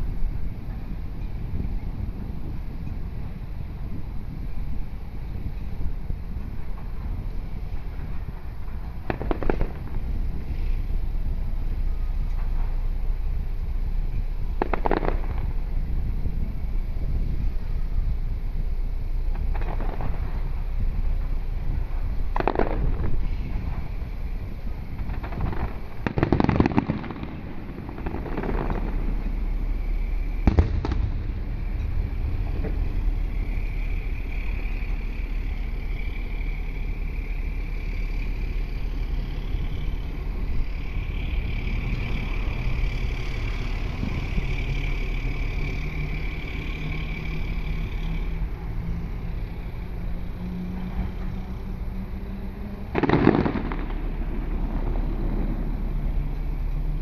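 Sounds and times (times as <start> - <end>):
fireworks bursting: 0.0 - 49.5, 50.8 - 57.0
engine droning: 0.0 - 57.0.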